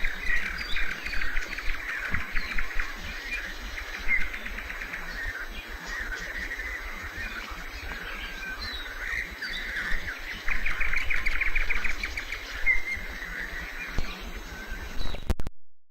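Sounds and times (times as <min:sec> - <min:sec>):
songbirds singing: 0:00.0 - 0:15.3.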